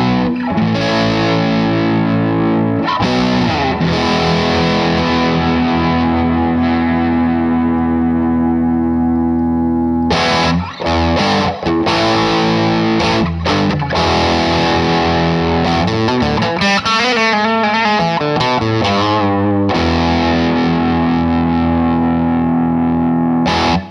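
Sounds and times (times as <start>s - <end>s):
distorted electric guitar: 0.0s - 23.9s.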